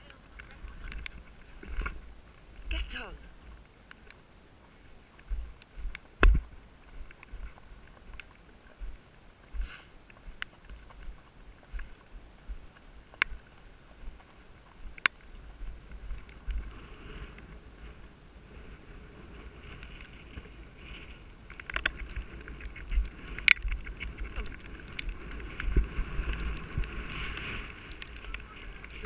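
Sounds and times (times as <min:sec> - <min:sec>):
horse riding movement noise: 0:00.0 - 0:29.0
wind buffeting microphone: 0:04.4 - 0:29.0.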